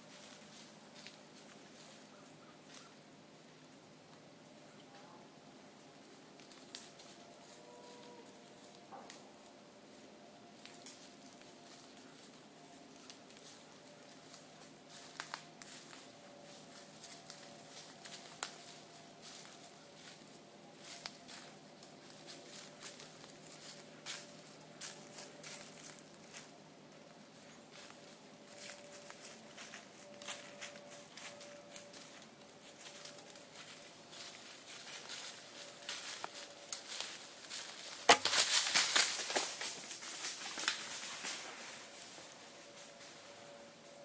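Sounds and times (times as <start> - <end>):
footsteps crunching dry leaves: 0.0 - 2.9, 10.6 - 26.6, 27.2 - 43.6
faint steady hum: 0.0 - 44.0
small ticks and rustles: 0.1 - 44.0.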